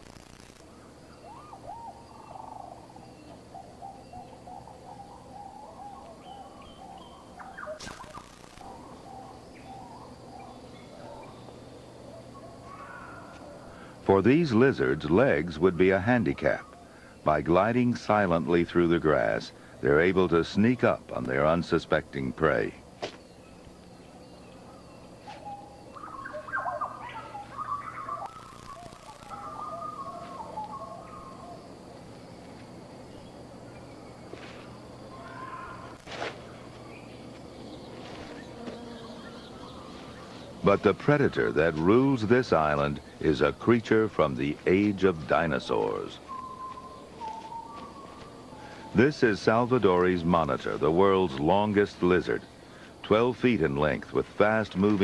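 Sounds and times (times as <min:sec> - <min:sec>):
birds chirping: 0:00.0 - 0:55.0
faint low hum: 0:00.0 - 0:55.0.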